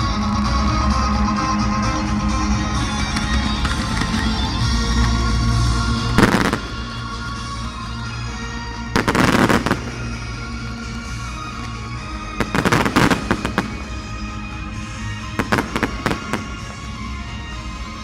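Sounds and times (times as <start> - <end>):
background music: 0.0 - 18.0
fireworks bangs and crackling: 1.6 - 18.0.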